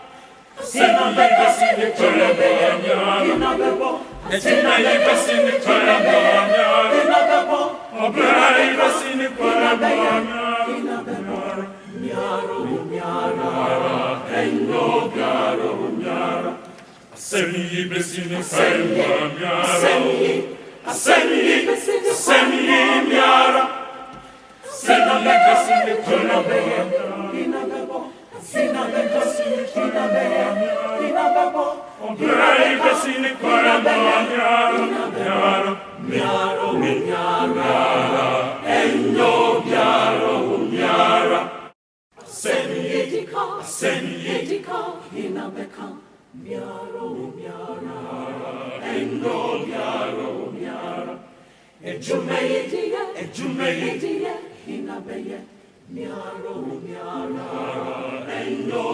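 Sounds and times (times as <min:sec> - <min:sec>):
congregation singing a hymn: 0:00.0 - 0:58.9.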